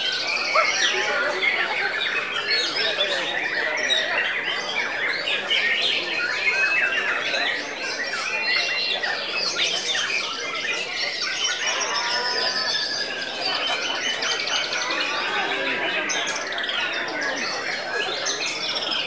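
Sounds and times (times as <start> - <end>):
birds singing: 0.0 - 19.0.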